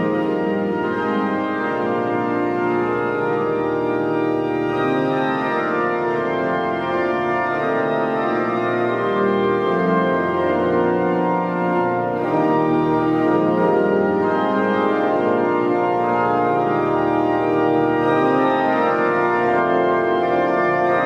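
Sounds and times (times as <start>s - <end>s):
pipe organ playing hymn chords: 0.0s - 21.0s.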